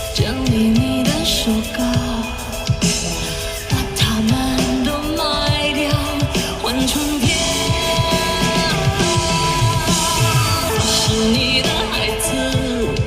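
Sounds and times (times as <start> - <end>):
instrumental accompaniment: 0.0 - 13.0
man singing: 0.0 - 13.0.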